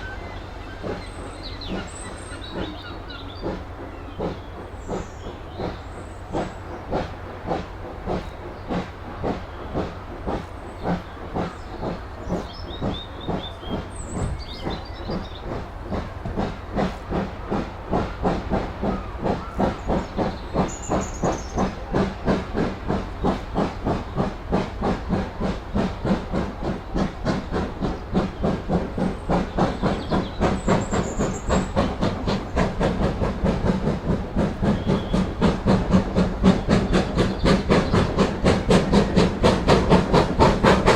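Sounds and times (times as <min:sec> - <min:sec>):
steam locomotive exhaust chuffing: 0:00.0 - 0:40.9.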